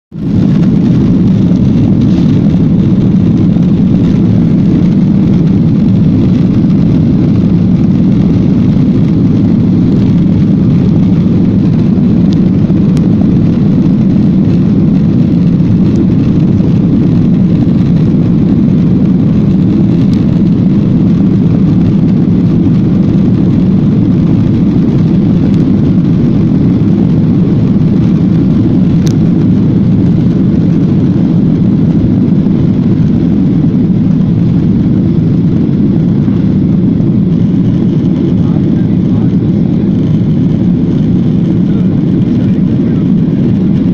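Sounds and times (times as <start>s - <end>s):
jet engines at takeoff thrust: 0.1s - 43.9s
wheels rumbling on runway: 0.1s - 43.9s.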